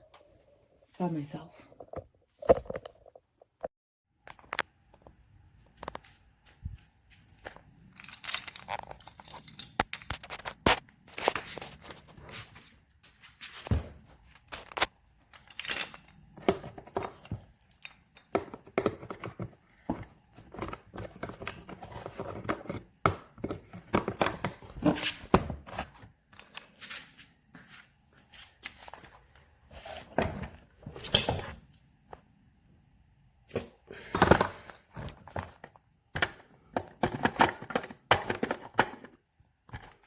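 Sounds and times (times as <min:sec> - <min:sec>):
rustling of things handled: 0:04.2 - 0:32.4, 0:33.5 - 0:40.0.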